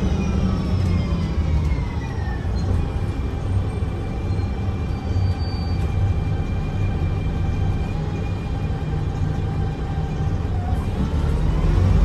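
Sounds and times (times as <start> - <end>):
heavy low engine rumble: 0.0 - 12.0.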